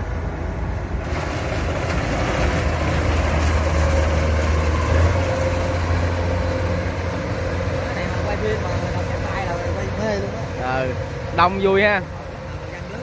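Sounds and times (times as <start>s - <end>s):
harvester diesel engine droning: 0.0s - 13.0s
rush of working machinery: 0.0s - 13.0s.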